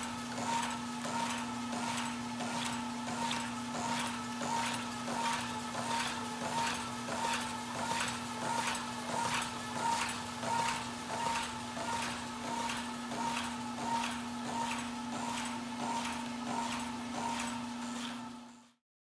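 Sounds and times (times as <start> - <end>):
machine clacking: 0.0 - 18.3
machine humming: 0.0 - 18.8.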